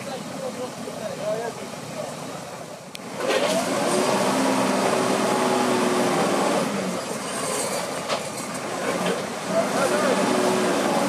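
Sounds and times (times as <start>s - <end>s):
vehicle engine running hard: 0.0s - 11.0s.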